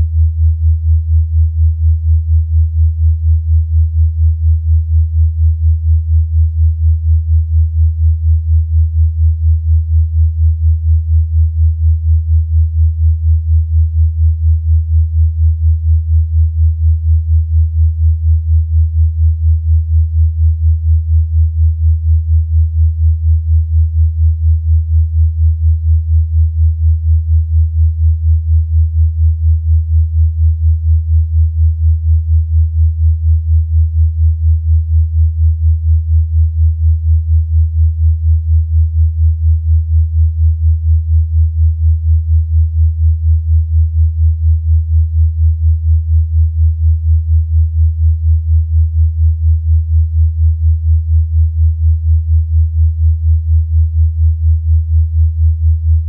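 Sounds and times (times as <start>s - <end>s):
pulsing low sine tone: 0.0s - 56.0s.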